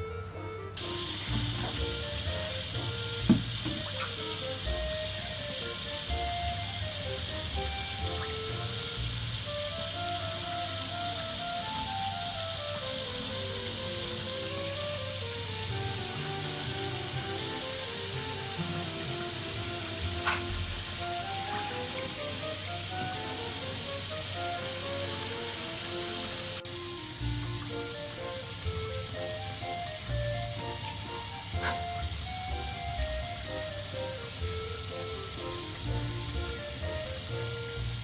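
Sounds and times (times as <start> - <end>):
simple melody of single notes: 0.0 - 38.0
steady hiss: 0.8 - 38.0.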